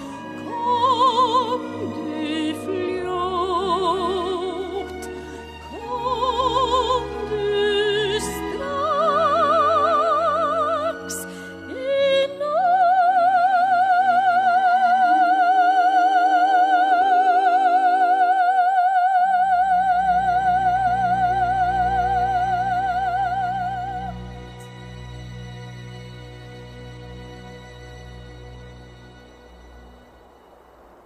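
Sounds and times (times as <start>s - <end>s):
soft orchestral accompaniment: 0.0s - 31.0s.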